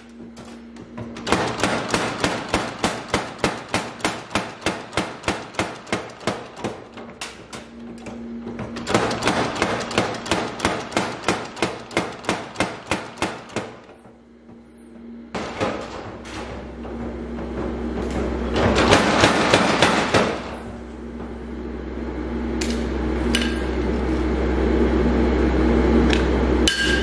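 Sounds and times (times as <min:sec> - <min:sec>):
power hammer striking metal: 0:00.0 - 0:14.6, 0:15.3 - 0:21.5, 0:22.6 - 0:23.8, 0:26.1 - 0:27.0
low steady hum: 0:00.0 - 0:27.0.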